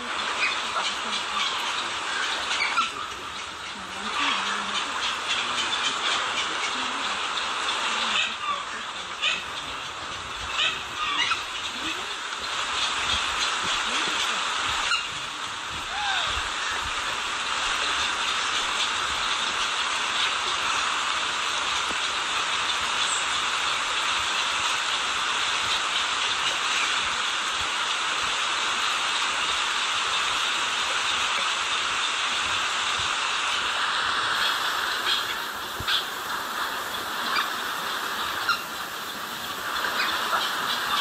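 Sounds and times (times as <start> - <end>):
small waterfall rushing: 0.0 - 41.0.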